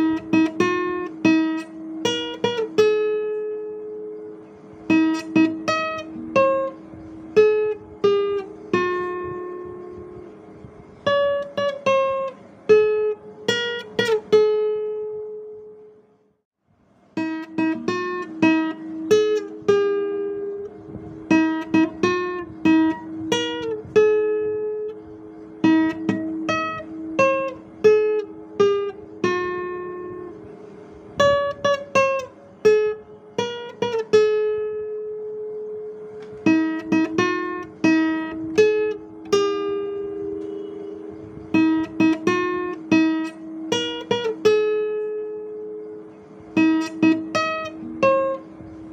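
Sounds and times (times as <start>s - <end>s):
guitar picking slow melody: 0.0s - 16.1s, 17.1s - 48.9s.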